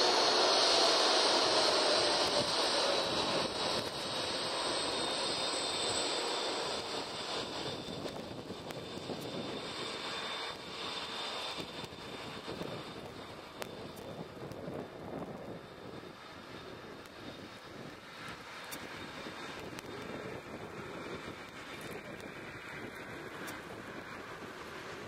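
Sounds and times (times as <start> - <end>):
jet engines taxiing with whine: 0.0 - 25.0.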